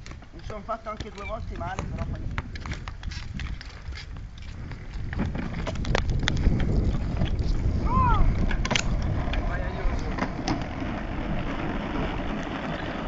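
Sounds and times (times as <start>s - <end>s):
plastic wheels rumbling on concrete: 0.0s - 13.0s
wind buffeting microphone: 0.0s - 13.0s.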